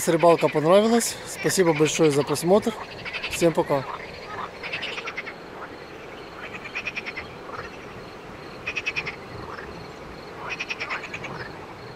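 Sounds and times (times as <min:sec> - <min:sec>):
frogs croaking: 0:00.0 - 0:11.9.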